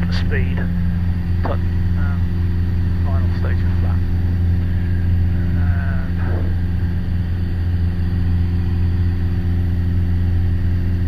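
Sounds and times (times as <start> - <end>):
light aircraft engine droning: 0.0 - 11.0.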